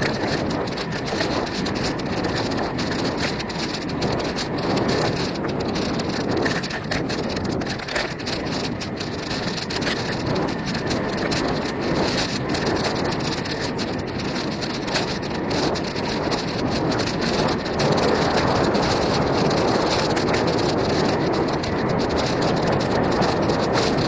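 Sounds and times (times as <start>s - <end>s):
bike tyres rumbling on dirt: 0.0s - 24.0s
wind on microphone: 0.0s - 24.0s.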